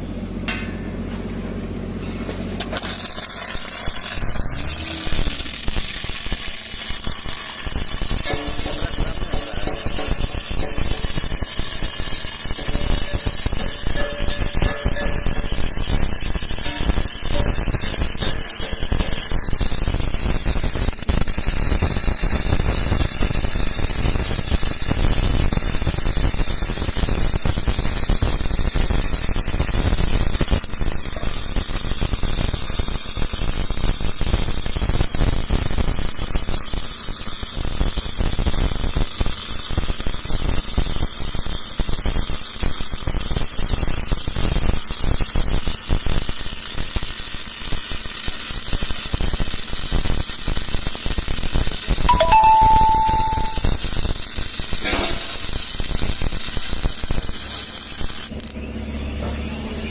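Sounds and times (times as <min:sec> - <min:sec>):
welding arc crackling: 0:02.4 - 0:58.6.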